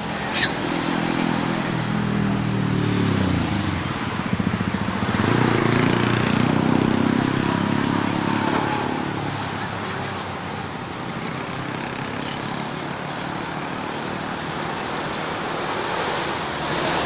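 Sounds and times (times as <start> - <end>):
vehicle engines passing by: 0.0 - 17.0.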